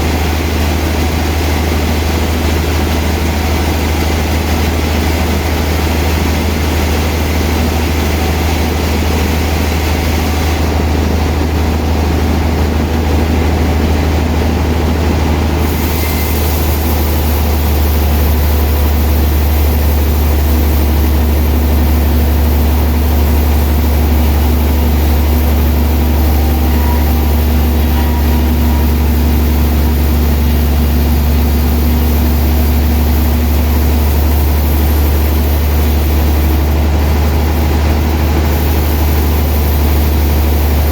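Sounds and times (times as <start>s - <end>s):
sawmill machinery sawing log: 0.0s - 40.9s.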